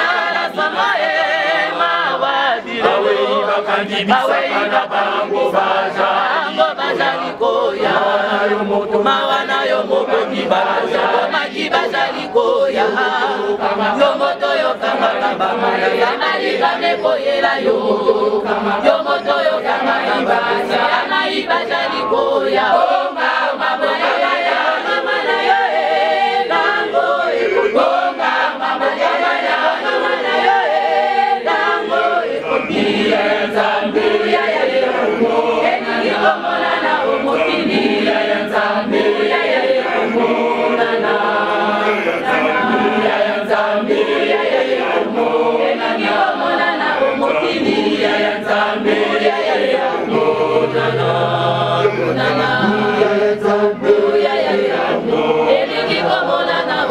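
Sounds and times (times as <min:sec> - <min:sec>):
women's choir singing hymn: 0:00.0 - 0:56.9.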